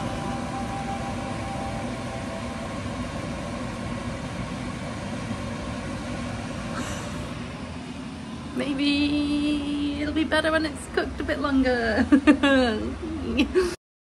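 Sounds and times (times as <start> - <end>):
kitchen appliance whirring hum: 0.0 - 13.8.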